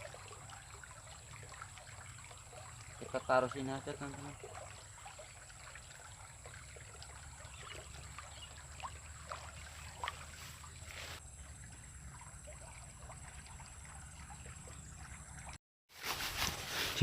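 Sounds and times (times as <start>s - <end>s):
water trickling and dripping: 0.0s - 15.6s.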